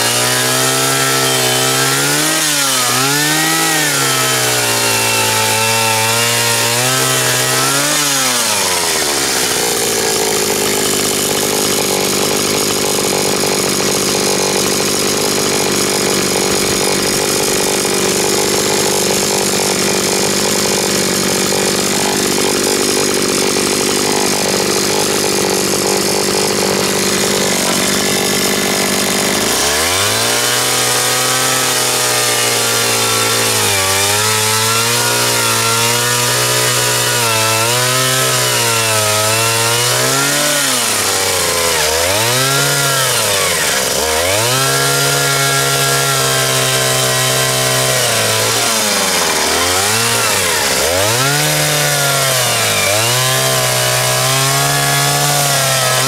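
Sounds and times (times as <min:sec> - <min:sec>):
power tool motor running: 0:00.0 - 0:56.0.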